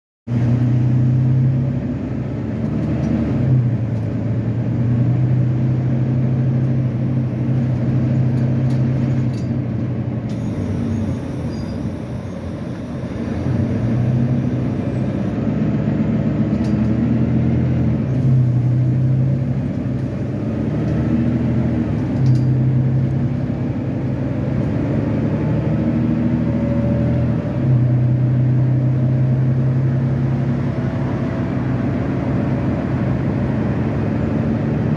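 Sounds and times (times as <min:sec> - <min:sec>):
bus diesel engine running: 0:00.3 - 0:34.9.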